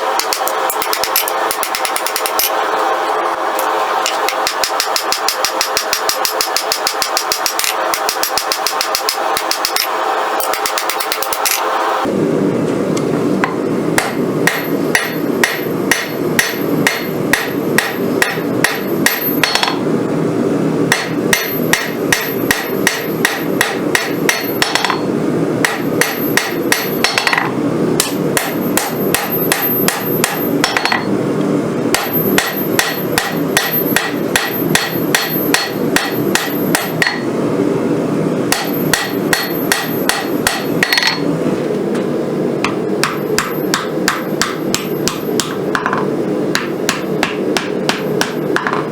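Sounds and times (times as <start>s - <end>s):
hammer striking steel on anvil: 0.0s - 2.6s, 3.6s - 11.7s, 13.4s - 19.8s, 20.9s - 31.1s, 31.9s - 37.3s, 38.5s - 41.3s, 42.6s - 48.9s.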